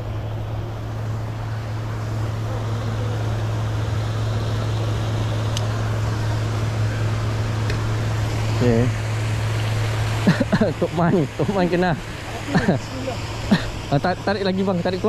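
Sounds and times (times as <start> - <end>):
churning water: 0.0 - 15.0
low motor hum: 0.0 - 15.0.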